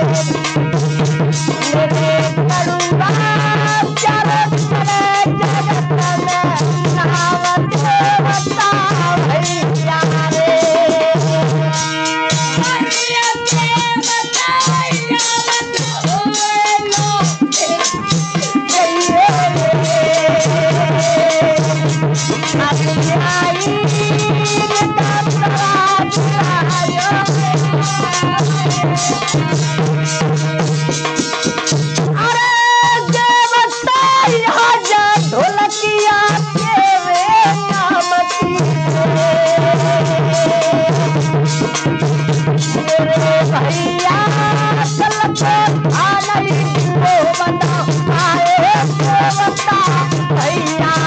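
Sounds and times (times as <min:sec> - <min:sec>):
quick percussion beat: 0:00.0 - 0:51.0
devotional folk song: 0:01.3 - 0:51.0.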